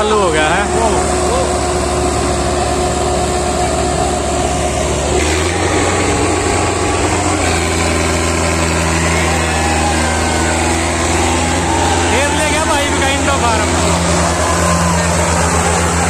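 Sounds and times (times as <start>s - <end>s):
tractor diesel engines at full throttle: 0.0s - 16.0s.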